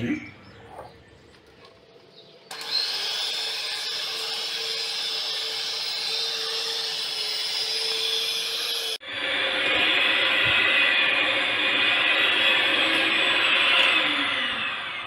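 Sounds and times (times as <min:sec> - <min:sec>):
electric hand mixer whine: 0:02.5 - 0:15.0.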